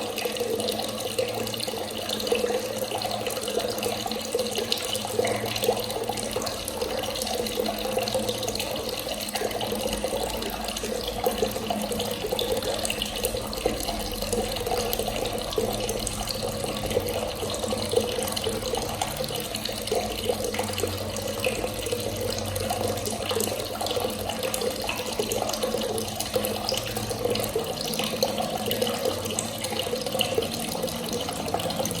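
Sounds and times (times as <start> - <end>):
water running from a tap: 0.0 - 32.0.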